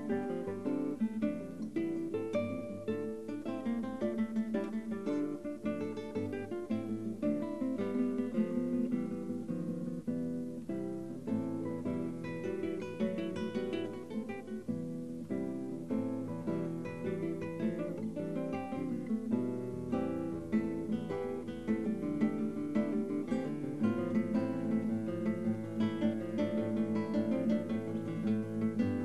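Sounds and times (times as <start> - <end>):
two classical guitars playing: 0.0 - 29.0.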